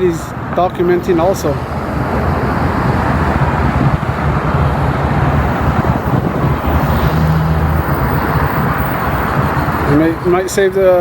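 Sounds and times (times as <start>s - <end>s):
engine hum: 0.0s - 11.0s
road noise: 0.0s - 11.0s.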